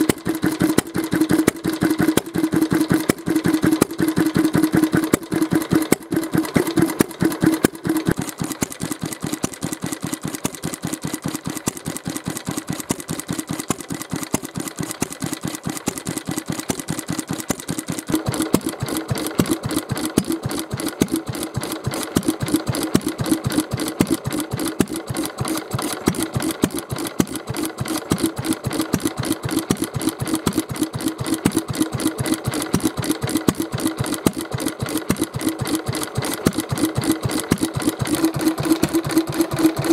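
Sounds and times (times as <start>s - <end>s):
stationary engine chugging: 0.0s - 39.9s.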